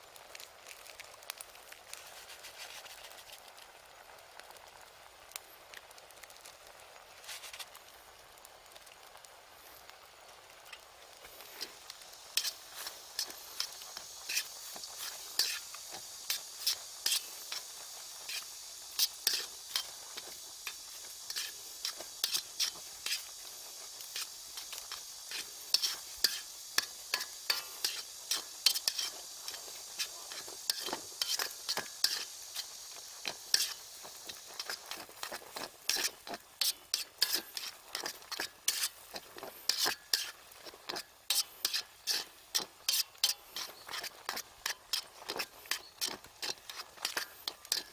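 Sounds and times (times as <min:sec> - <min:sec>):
food sizzling in a pan: 0:00.0 - 0:47.9
utensil scraping a pan: 0:01.9 - 0:03.4, 0:07.2 - 0:07.8, 0:10.7 - 0:47.9.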